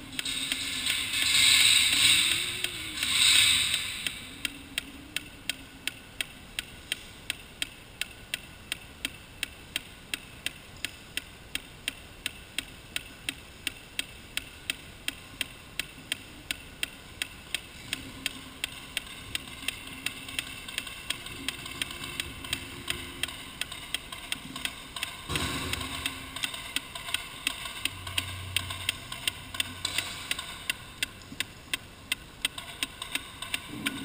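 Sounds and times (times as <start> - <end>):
sharp steady ticks: 0.0 - 34.0.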